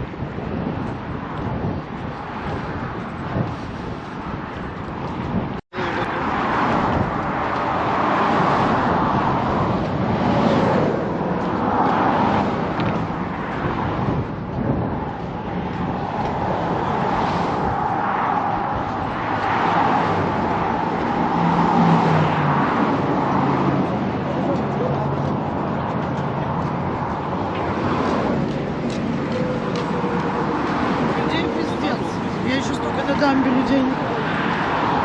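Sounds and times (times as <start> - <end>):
cars rushing past: 0.0 - 35.0.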